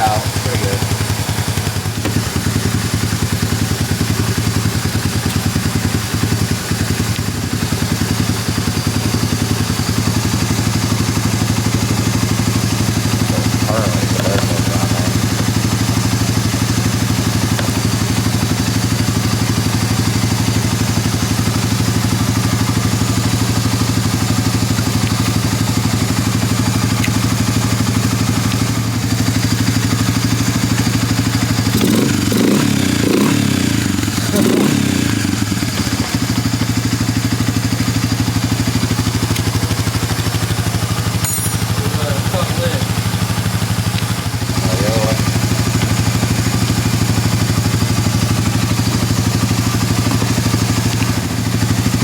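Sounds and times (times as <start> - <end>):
atv engine running and revving: 0.0 - 52.0.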